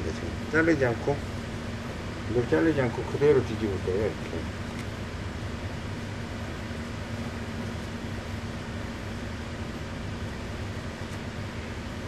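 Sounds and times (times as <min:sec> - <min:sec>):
machine hum with low drone: 0:00.0 - 0:12.0.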